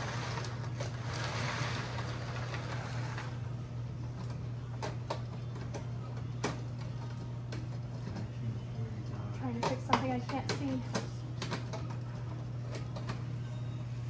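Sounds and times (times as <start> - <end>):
toy train electric hum: 0.0 - 14.0.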